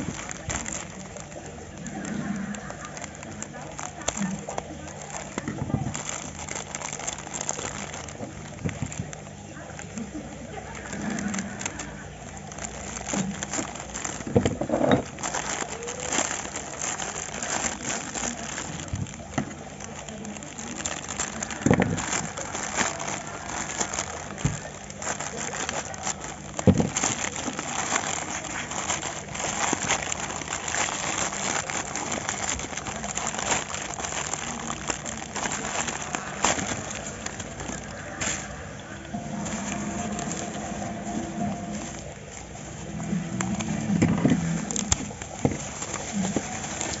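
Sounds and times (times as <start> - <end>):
plastic packaging crackling: 0.0 - 47.0.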